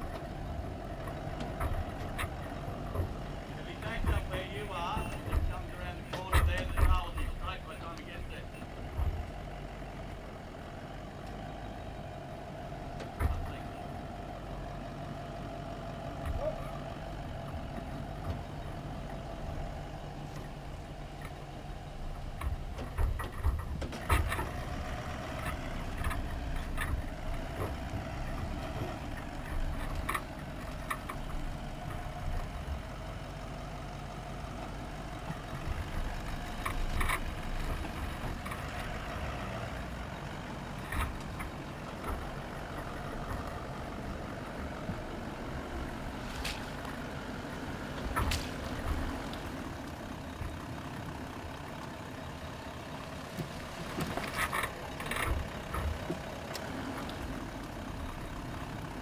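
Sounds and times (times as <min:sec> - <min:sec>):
vehicle and trailer knocking: 0:00.0 - 0:59.0
vehicle engine hum: 0:00.0 - 0:59.0.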